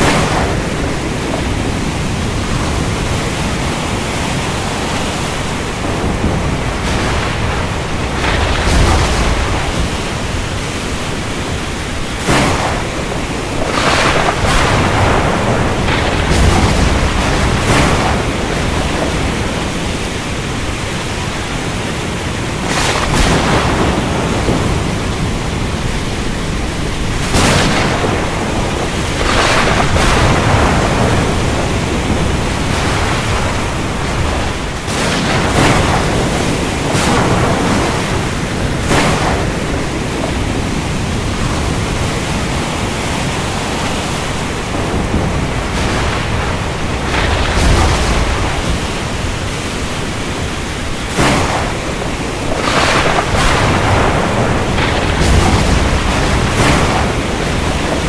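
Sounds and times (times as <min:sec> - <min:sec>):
heavy rain hiss: 0:00.0 - 0:58.0
thunder cracks: 0:00.0 - 0:58.0.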